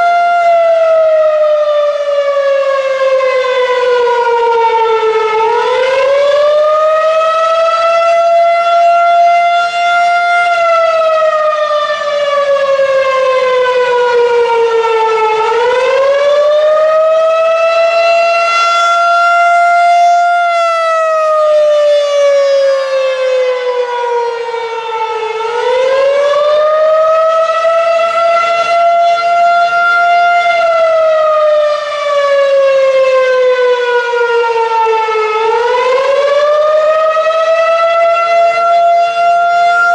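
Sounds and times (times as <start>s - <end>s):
rising and falling siren: 0.0s - 39.9s.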